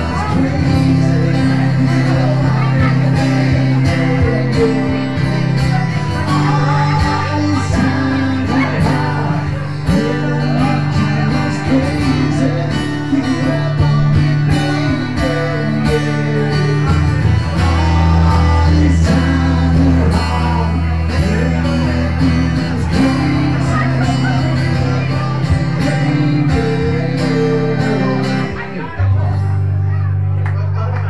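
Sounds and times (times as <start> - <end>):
strummed acoustic guitar: 0.0 - 30.6
low bass notes: 0.0 - 31.0.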